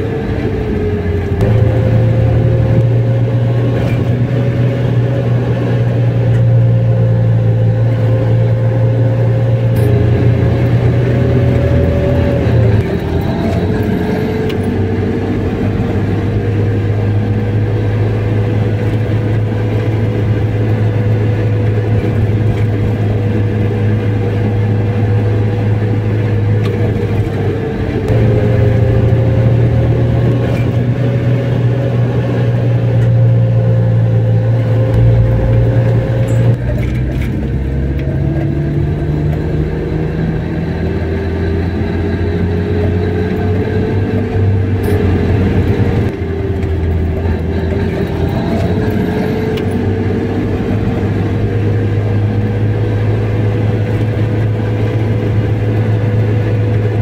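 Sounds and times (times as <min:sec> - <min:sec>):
car engine while driving: 0:00.0 - 0:57.0
road noise: 0:00.0 - 0:57.0.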